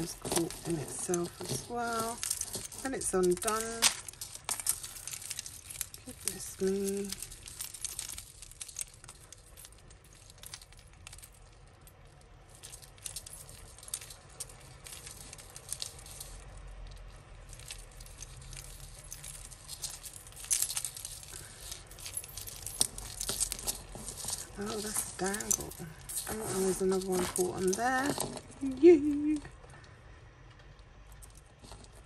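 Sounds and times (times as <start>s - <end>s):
necklace chains clinking: 0.0s - 32.0s.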